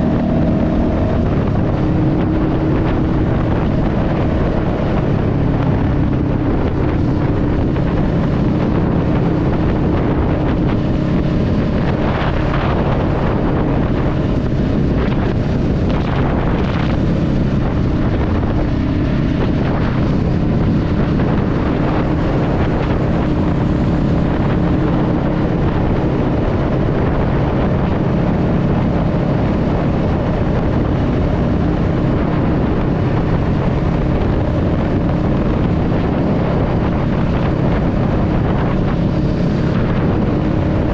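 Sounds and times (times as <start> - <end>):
motorcycle engine cruising: 0.0 - 40.9
wind rumbling on microphone: 0.0 - 40.9.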